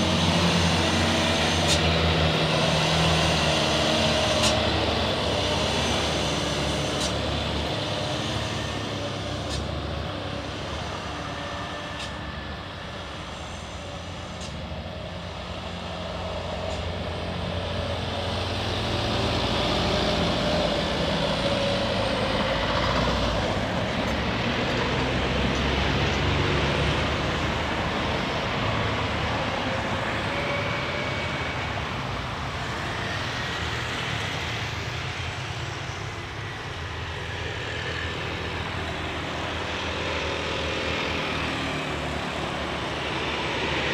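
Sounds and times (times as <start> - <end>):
diesel trucks driving past: 0.0 - 43.9.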